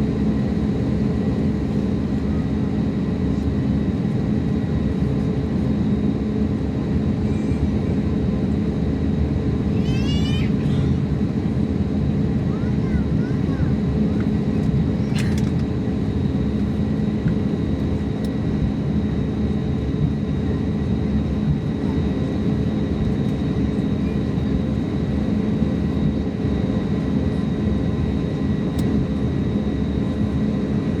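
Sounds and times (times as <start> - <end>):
jet cabin rumble: 0.1 - 31.0.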